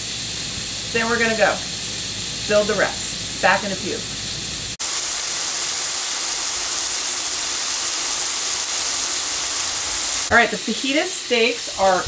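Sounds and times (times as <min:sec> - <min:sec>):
steak sizzling in skillet: 0:00.0 - 0:12.0.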